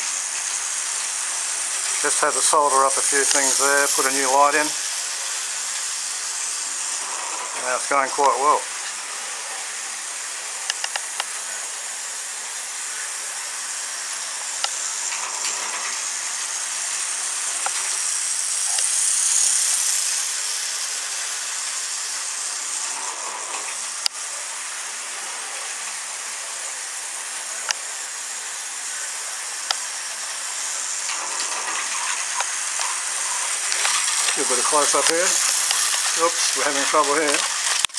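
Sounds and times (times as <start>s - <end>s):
model train whirring hiss: 0.0s - 37.9s.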